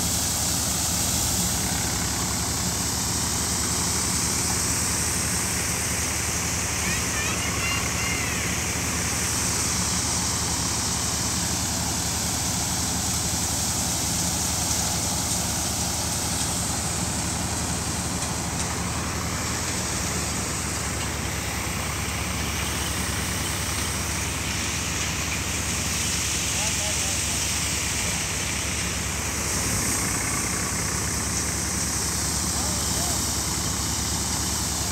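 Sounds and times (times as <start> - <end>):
tractor engine drone: 0.0 - 34.9.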